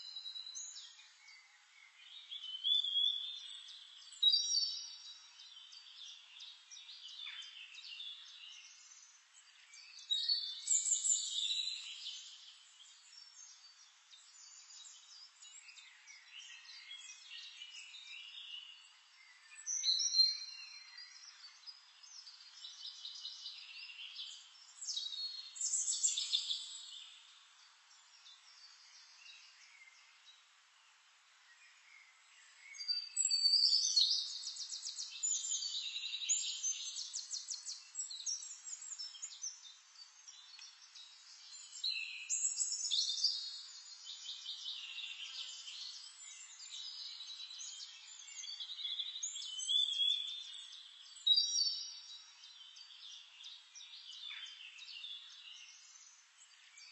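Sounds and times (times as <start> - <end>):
songbirds singing and chirping: 0.0 - 56.9.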